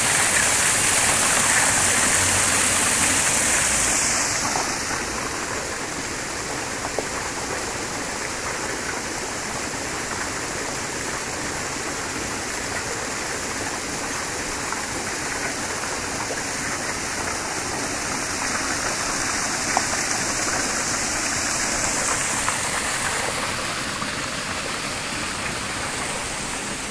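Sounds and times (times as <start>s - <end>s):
water pouring into stream: 0.0s - 26.9s.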